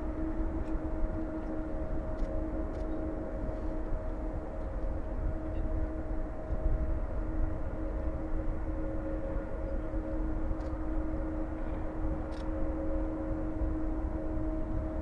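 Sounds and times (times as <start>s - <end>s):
distant jet engines droning: 0.0s - 15.0s.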